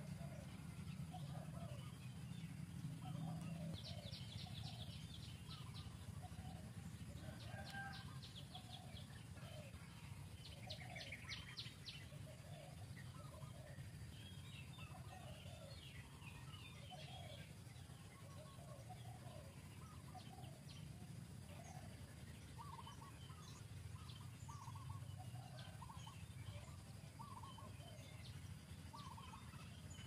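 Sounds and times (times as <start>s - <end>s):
high rattling bird trills: 0.0s - 30.0s.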